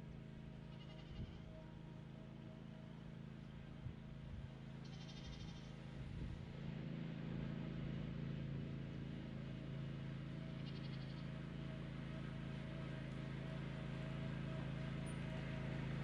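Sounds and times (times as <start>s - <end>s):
mower engine running: 0.0s - 1.2s, 1.8s - 16.0s.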